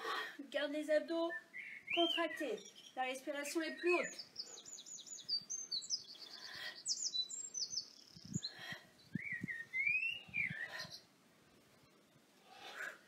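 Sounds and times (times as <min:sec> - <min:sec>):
songbird singing: 0:00.7 - 0:12.8.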